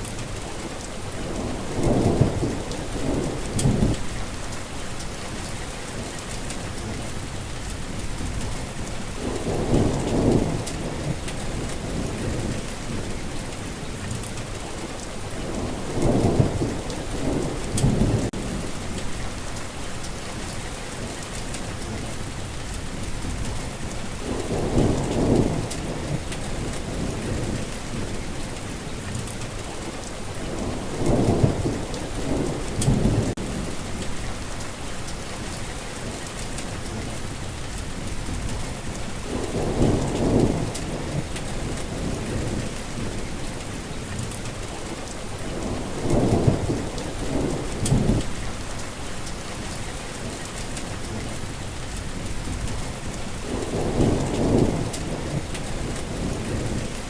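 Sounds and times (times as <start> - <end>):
low rolls of thunder: 0.0 - 4.6, 5.2 - 19.6, 20.2 - 57.0
heavy rain falling: 0.0 - 57.0.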